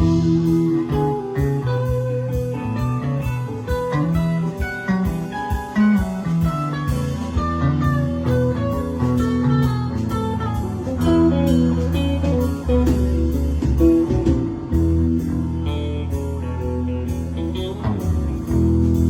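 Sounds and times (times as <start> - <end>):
electric guitar: 0.0 - 19.0
live band playing: 0.0 - 19.0.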